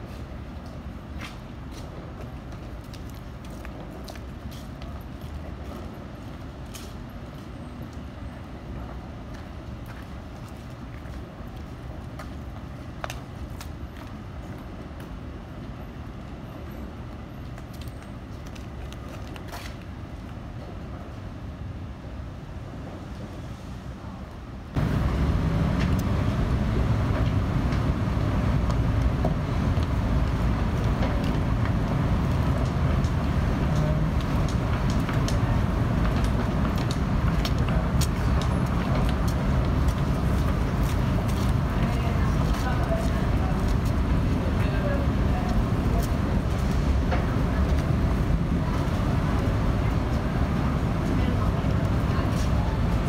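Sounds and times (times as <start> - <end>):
low traffic rumble: 0.0 - 53.0.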